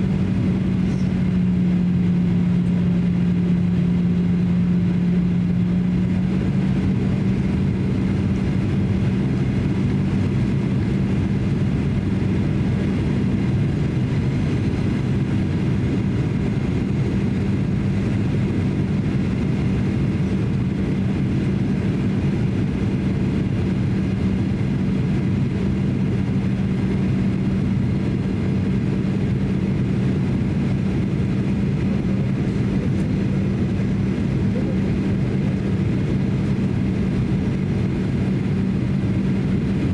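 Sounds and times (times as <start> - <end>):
aircraft cabin engine rumble: 0.0 - 39.9
constant low hum: 0.0 - 39.9.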